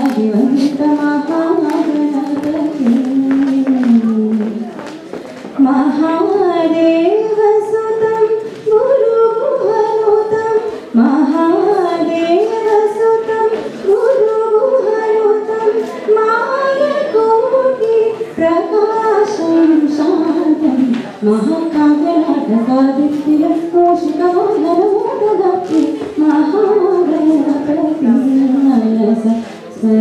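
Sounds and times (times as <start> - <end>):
woman singing into microphone: 0.0 - 4.9, 5.5 - 30.0.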